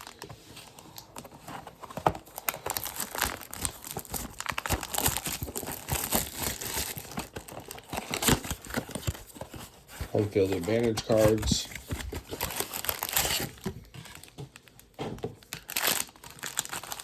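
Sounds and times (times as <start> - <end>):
plastic packaging crinkling and tearing: 0.0 - 17.0.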